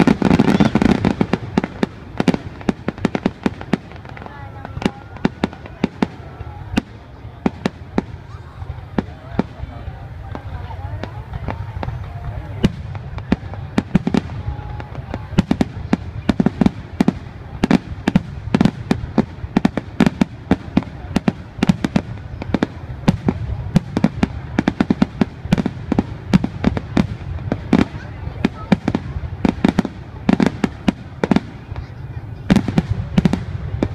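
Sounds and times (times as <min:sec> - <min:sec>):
fireworks bursting bangs: 0:00.0 - 0:33.9.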